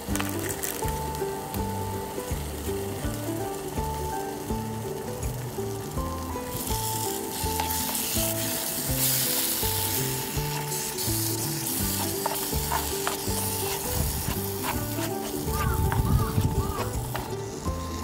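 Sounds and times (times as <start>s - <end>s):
background music with beat: 0.0s - 18.0s
food sizzling in a pan: 0.0s - 18.0s.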